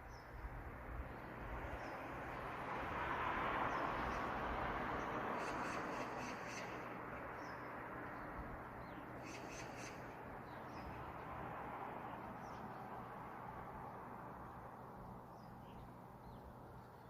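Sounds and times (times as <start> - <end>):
small birds chirping: 0.0 - 2.5, 5.0 - 17.0
outdoor background hiss: 0.0 - 17.0.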